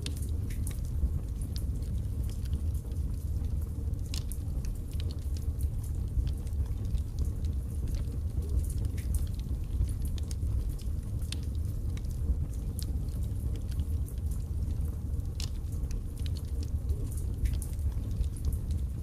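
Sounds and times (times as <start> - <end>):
fire crackling and popping: 0.0 - 19.0
low rumble of fire: 0.0 - 19.0.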